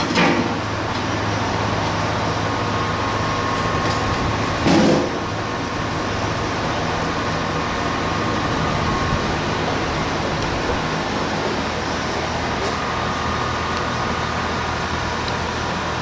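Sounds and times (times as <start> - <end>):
air compressor hum: 0.0 - 16.0.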